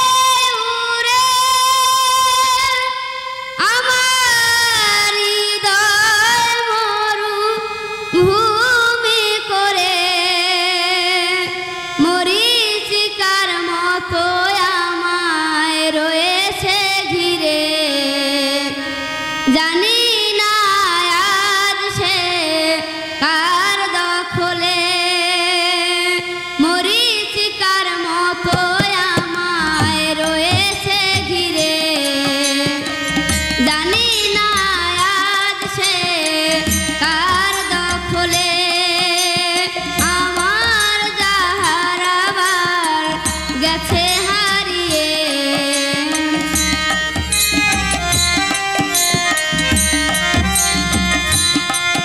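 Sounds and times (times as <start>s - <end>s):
woman singing folk song: 0.0s - 18.7s, 19.5s - 32.9s, 33.6s - 46.5s.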